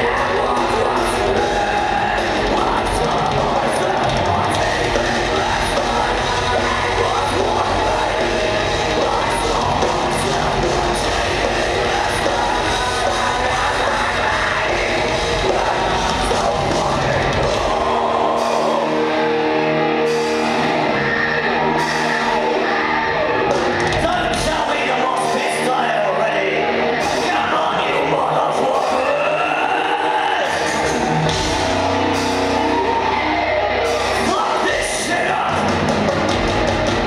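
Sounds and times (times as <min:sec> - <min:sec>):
distorted electric guitars: 0:00.0 - 0:37.0
drums: 0:00.0 - 0:37.0
person singing: 0:00.0 - 0:37.0.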